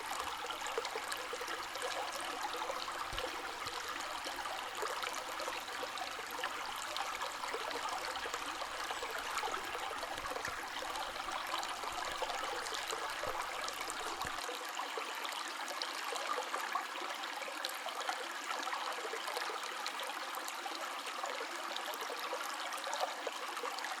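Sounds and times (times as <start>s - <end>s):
water splashes and trickles: 0.0s - 24.0s.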